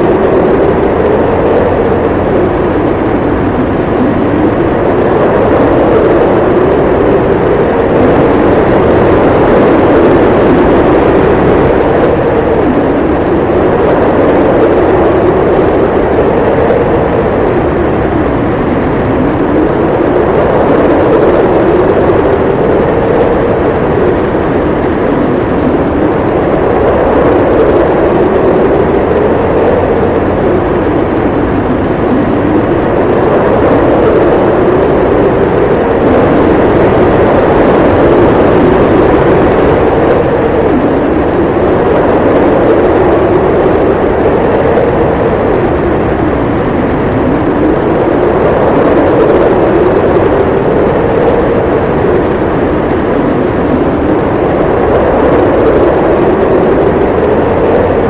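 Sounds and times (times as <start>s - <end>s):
blizzard wind howling: 0.0s - 58.0s.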